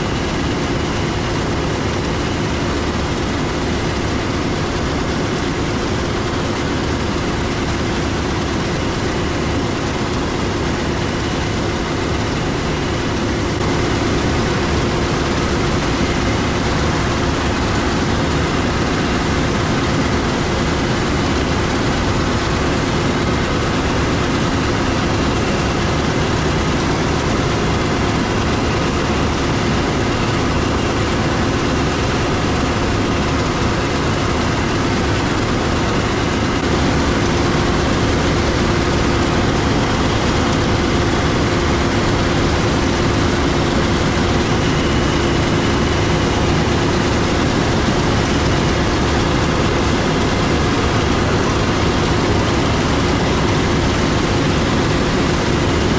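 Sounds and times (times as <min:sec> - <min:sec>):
diesel machinery drone: 0:00.0 - 0:55.9
steady machine whine: 0:00.0 - 0:55.9.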